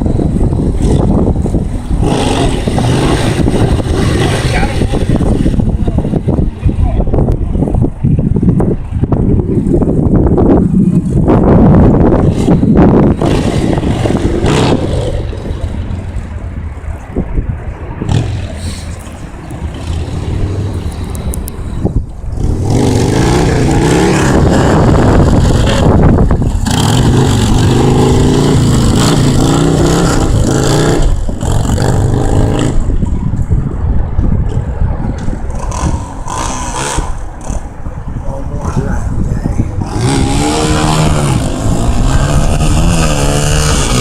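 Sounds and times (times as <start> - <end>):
motorcycle engine revving: 0.0 - 6.6, 8.2 - 16.2, 18.0 - 33.6, 34.4 - 38.8, 39.6 - 44.0.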